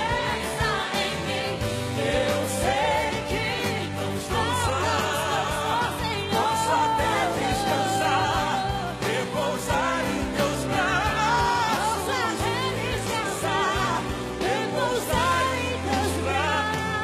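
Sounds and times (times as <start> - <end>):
lead vocal singing: 0.0 - 17.0
live band with drums: 0.0 - 17.0.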